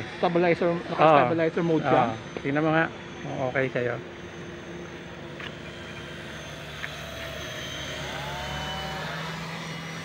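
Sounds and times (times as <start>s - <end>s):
rc helicopter rotors whirring: 0.0s - 10.0s.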